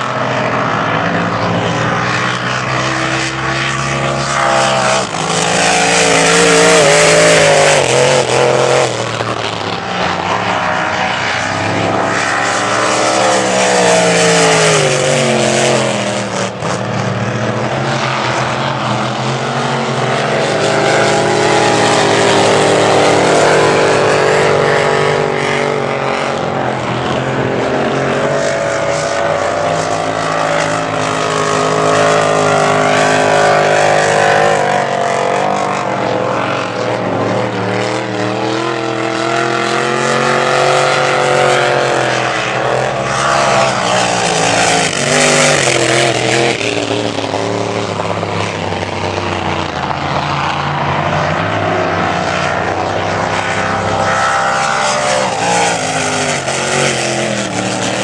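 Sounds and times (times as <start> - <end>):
race boat engines at high revs: 0.0 - 58.0.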